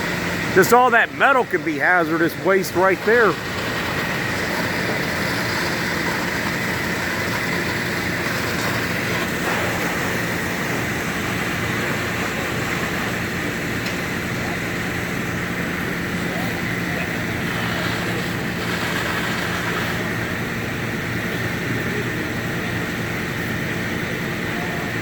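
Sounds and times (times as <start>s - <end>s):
demolition machine engine running: 0.0s - 25.0s.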